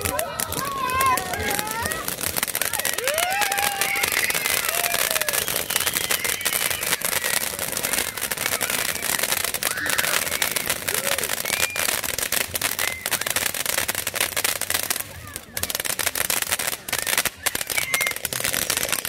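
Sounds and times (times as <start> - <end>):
faint voices: 0.0 - 19.0
firecrackers popping: 0.0 - 19.0.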